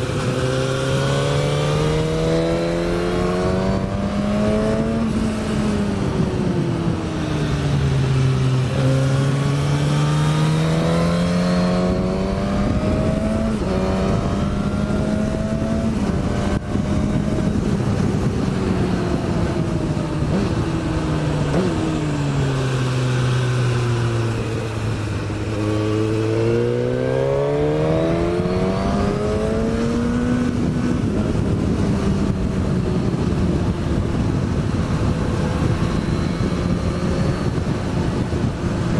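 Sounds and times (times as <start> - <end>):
motorcycle engine revving: 0.0 - 38.9
wind rush: 0.0 - 38.9.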